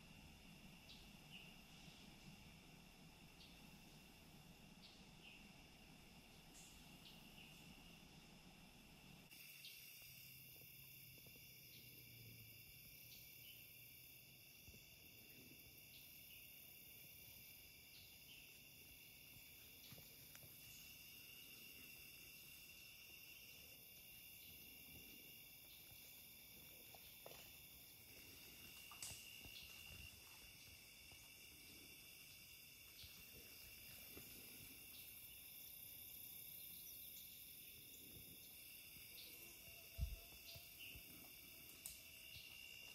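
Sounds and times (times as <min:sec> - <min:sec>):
crickets and insects trilling: 0:00.0 - 0:42.9.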